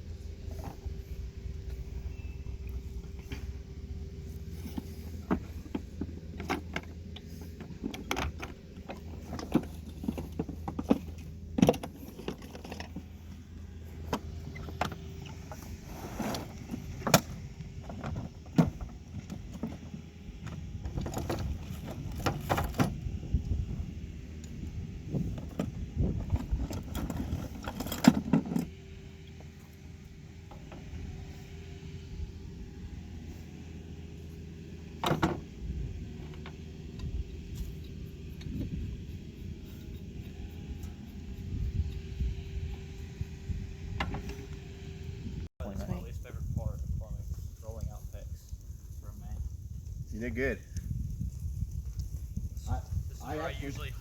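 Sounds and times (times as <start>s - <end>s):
low engine hum: 0.0s - 54.0s.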